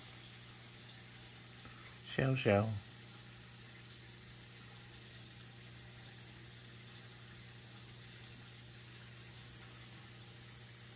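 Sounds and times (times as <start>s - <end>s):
water trickling and bubbling: 0.0s - 10.9s.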